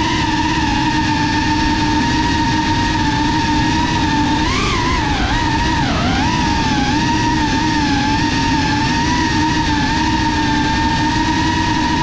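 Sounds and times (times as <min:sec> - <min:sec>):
drone motors whining: 0:00.0 - 0:12.0
low rushing noise: 0:01.0 - 0:12.0.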